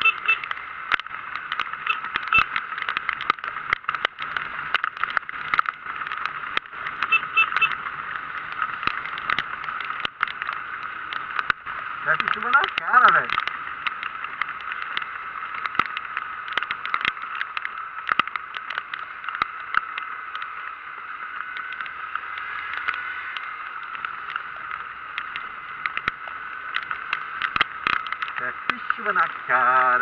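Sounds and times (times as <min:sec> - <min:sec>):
rain tapping on microphone: 0:00.0 - 0:30.0
road noise: 0:00.0 - 0:30.0.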